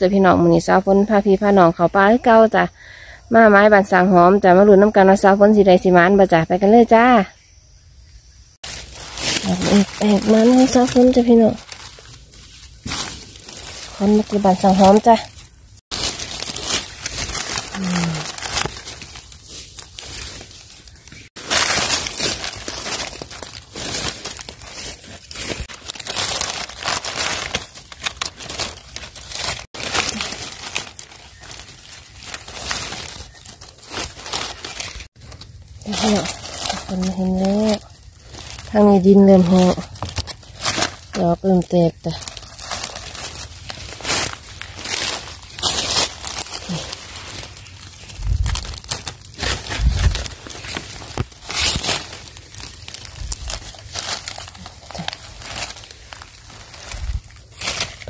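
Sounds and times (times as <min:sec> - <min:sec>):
dry leaves crackling and rustling: 0:08.6 - 0:58.0.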